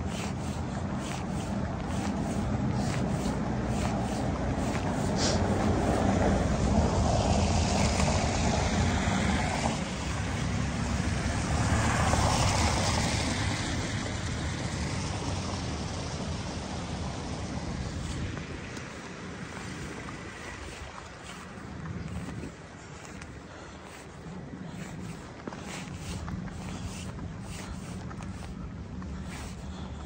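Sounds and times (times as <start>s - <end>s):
cars passing on wet street: 0.0s - 30.0s.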